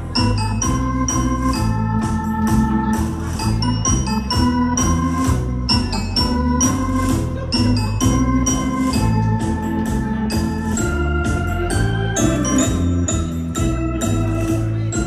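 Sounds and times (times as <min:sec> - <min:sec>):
electronic organ playing tango music: 0:00.0 - 0:15.0.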